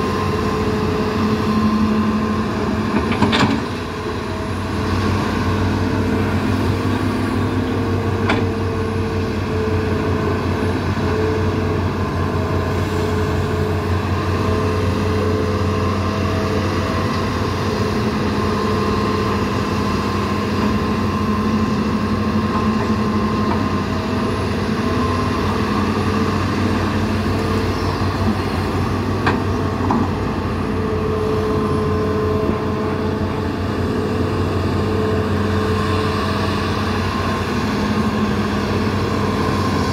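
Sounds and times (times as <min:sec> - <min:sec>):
excavator diesel engines droning: 0:00.0 - 0:39.9.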